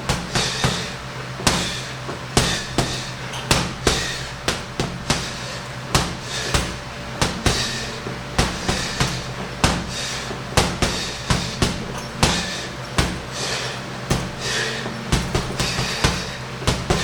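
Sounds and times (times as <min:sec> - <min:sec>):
punches thudding on heavy bag: 0:00.0 - 0:17.0.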